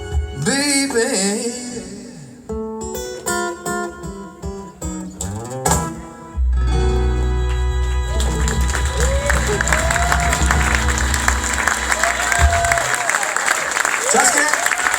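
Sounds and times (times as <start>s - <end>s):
acoustic guitar plucked notes: 0.0s - 12.9s.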